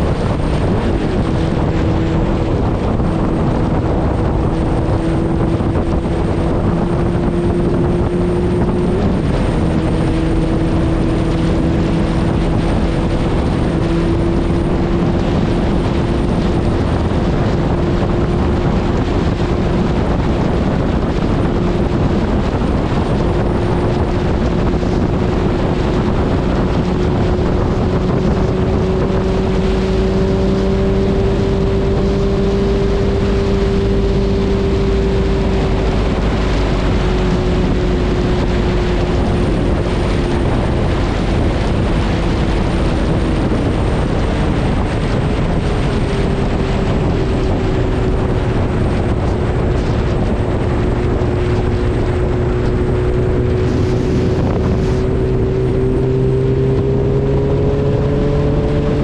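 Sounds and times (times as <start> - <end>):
motorcycle engine cruising: 0.0 - 59.0
wind noise: 0.0 - 59.0.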